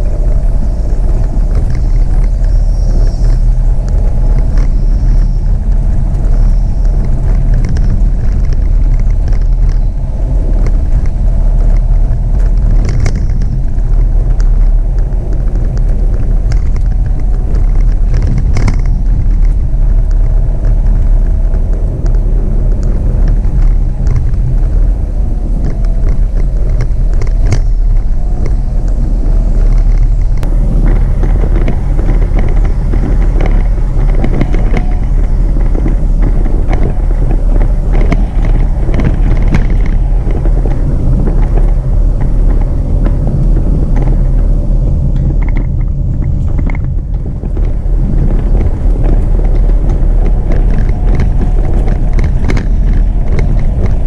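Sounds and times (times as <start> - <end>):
engine and tyres rumbling: 0.0 - 54.0.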